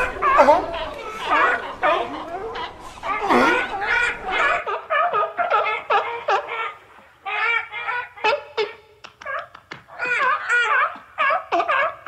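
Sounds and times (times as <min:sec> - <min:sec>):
sea lion barking: 0:00.0 - 0:12.0.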